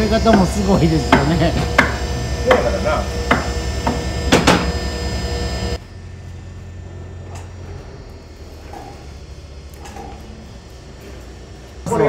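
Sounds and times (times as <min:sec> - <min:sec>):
sawmill machinery humming: 0:00.0 - 0:12.0.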